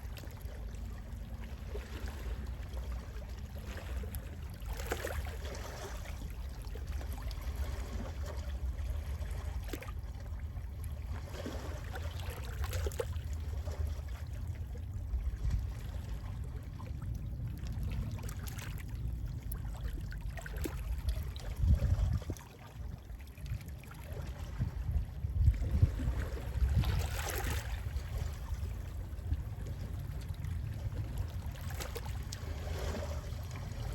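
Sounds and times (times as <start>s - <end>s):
sea waves lapping at shore: 0.0s - 33.9s
wind rumble on microphone: 0.0s - 33.9s.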